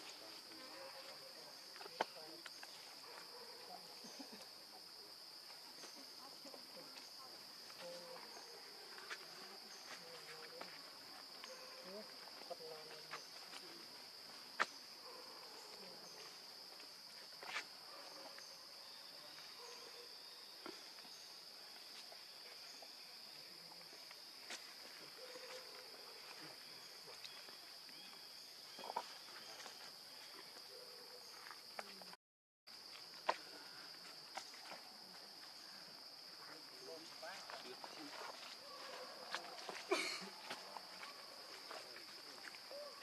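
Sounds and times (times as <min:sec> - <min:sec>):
high-pitched insect chorus: 0:00.0 - 0:32.1, 0:32.7 - 0:43.0.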